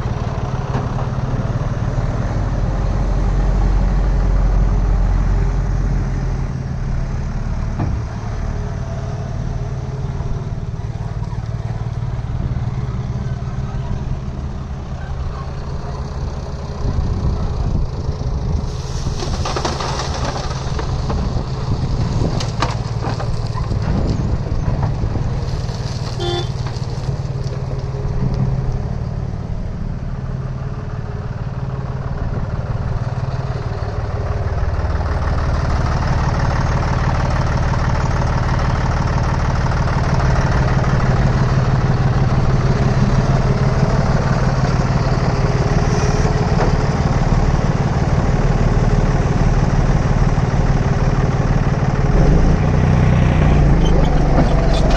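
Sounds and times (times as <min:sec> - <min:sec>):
backhoe diesel engine running: 0:00.0 - 0:54.9.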